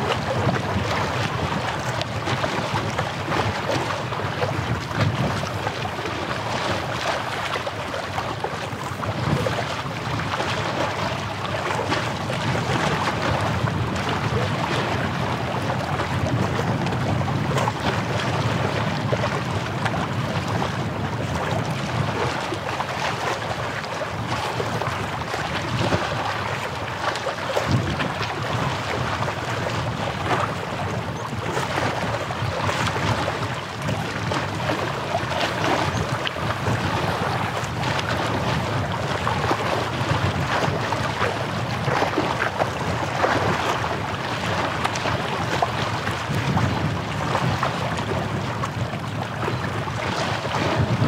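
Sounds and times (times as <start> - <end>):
small waves washing on shore: 0.0 - 51.0
wind: 0.0 - 51.0.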